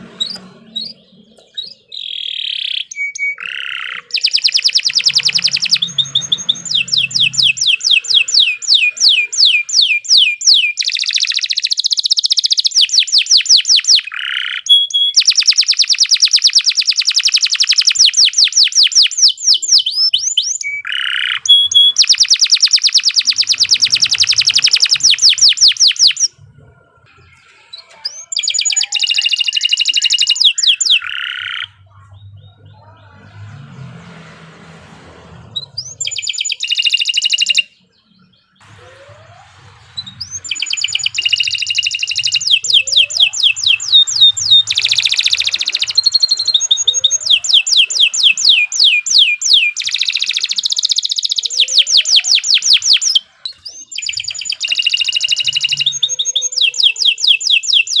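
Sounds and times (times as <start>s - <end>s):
single canary chirps: 0.0s - 33.1s, 35.5s - 38.6s, 40.0s - 58.0s
canary singing rolling trills: 0.0s - 58.0s.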